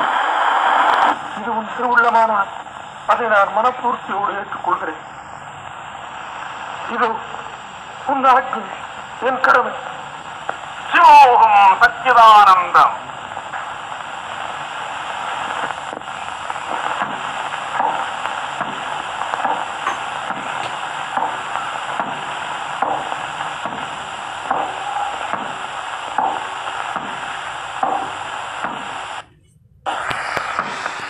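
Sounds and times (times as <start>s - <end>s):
film soundtrack hiss: 0.0s - 31.0s.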